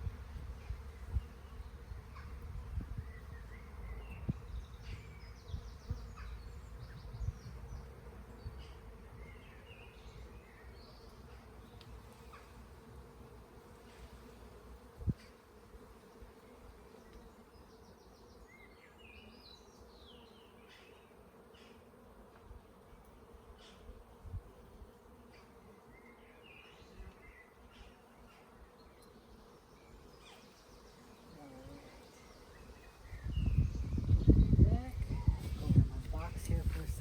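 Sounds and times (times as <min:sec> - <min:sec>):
honeybees humming: 0:00.0 - 0:37.0.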